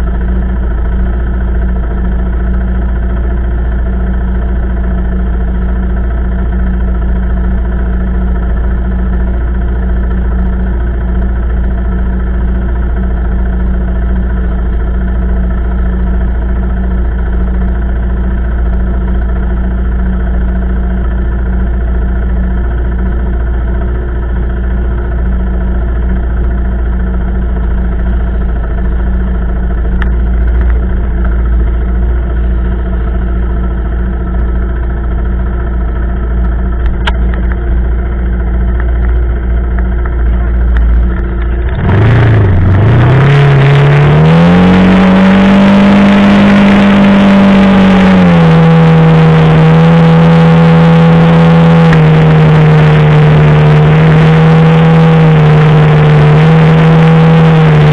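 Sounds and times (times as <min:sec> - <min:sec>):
quad bike engine idling: 0:00.0 - 0:57.9.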